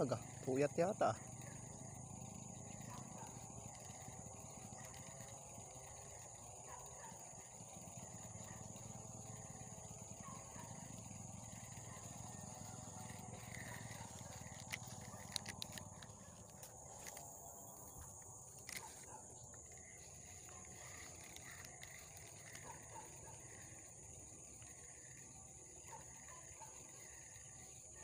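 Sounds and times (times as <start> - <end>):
high-pitched insect buzzing: 0.0 - 28.0
sharp clicks: 0.1 - 25.2.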